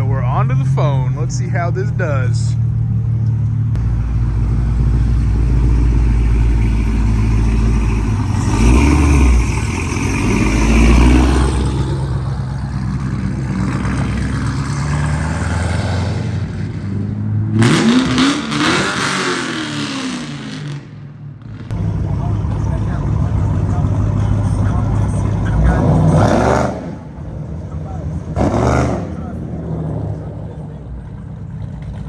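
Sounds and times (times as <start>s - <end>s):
car engines idling and revving: 0.0s - 32.0s.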